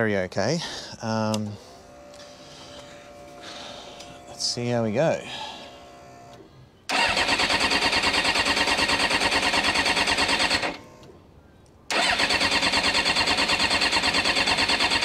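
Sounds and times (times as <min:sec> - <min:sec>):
electric starter cranking engine: 0:01.4 - 0:11.2, 0:11.9 - 0:15.0.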